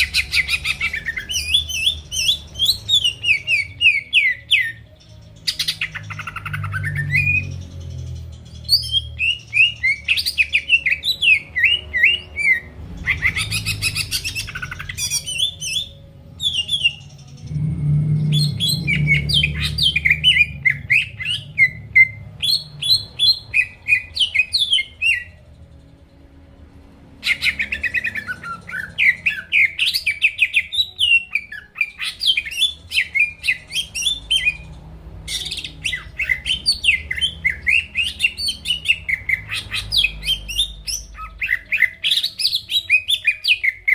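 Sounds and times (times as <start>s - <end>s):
bird singing rapid chirps: 0.0s - 26.2s, 27.2s - 43.9s.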